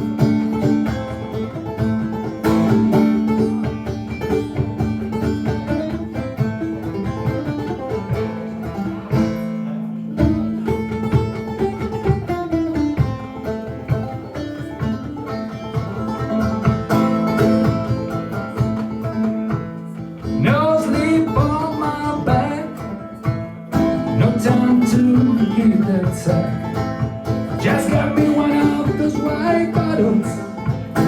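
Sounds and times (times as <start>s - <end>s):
banjo playing: 0.0s - 31.0s.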